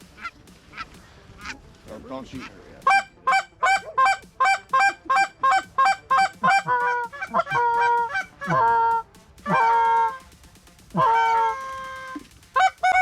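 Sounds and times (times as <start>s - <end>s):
goose call honks: 0.0s - 1.6s, 2.4s - 10.3s, 10.9s - 13.0s.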